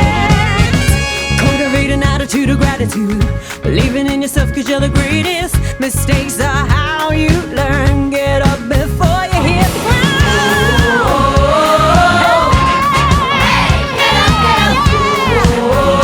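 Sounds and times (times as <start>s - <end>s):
pop song with harmony vocals: 0.0s - 16.0s.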